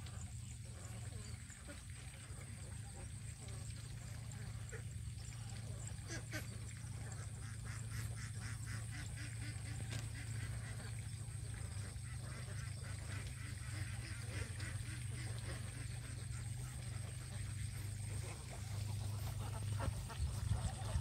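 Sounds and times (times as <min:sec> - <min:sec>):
ducks quacking: 0:00.0 - 0:21.0
steady low hum: 0:00.0 - 0:21.0.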